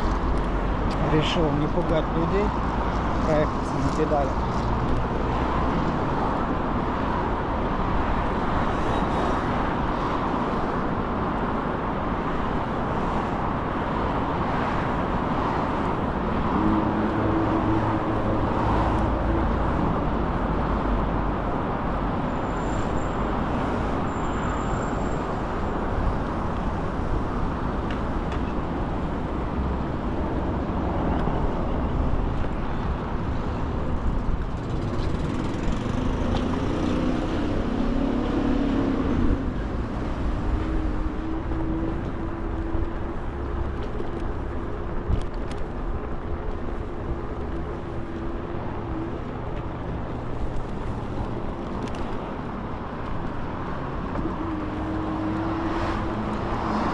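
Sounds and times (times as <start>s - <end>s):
bike road noise: 0.0s - 56.9s
traffic noise: 0.0s - 56.9s.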